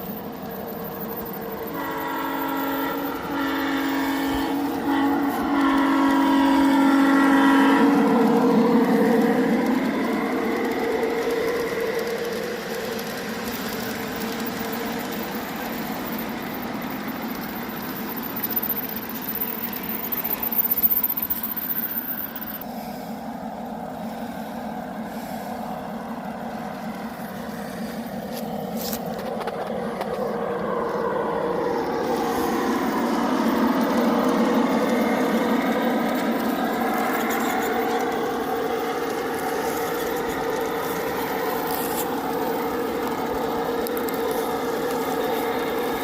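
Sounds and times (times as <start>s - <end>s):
model train running on track: 0.0s - 46.0s.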